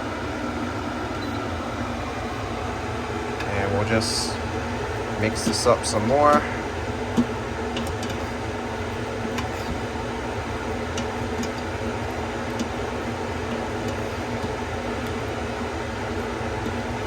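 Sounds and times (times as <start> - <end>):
mechanical fan hum: 0.0 - 17.0.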